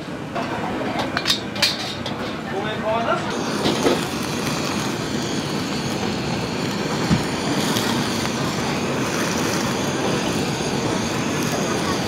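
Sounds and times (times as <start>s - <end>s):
gas burner and exhaust hood rushing: 0.0s - 12.0s.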